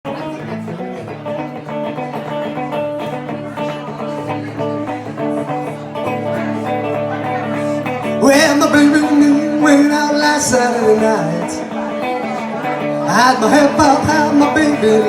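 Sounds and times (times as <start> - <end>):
guitar riff: 0.1 - 15.0.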